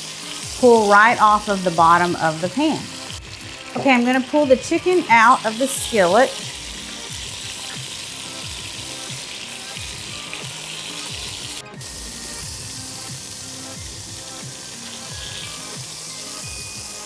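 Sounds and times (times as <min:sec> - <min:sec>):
background music: 0:00.0 - 0:17.0
oil sizzling in a pot: 0:00.0 - 0:17.0.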